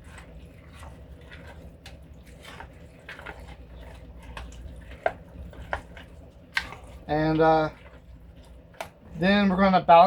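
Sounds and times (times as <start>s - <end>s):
spoon stirring thick mix: 0.0s - 10.0s.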